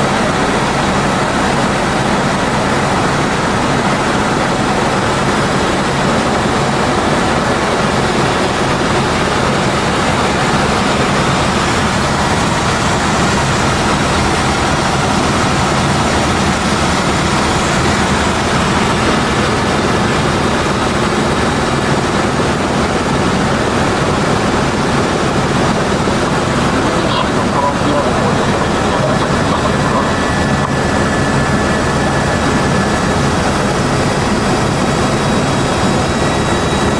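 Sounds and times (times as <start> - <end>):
helicopter engine and rotor hum: 0.0 - 36.9.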